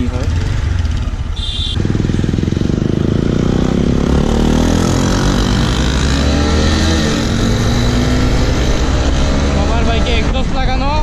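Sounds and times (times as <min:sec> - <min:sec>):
motorcycle engine accelerating: 0:00.0 - 0:10.7
road and wind noise: 0:00.0 - 0:11.0.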